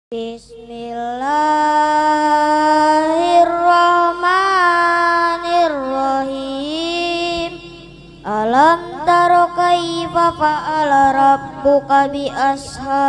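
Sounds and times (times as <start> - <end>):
boy chanting recitation: 0.1 - 13.0.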